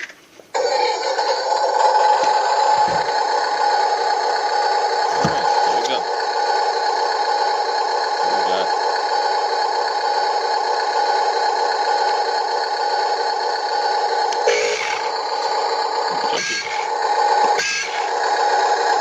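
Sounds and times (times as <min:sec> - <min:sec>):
electronic truck engine drone: 0:00.0 - 0:19.0.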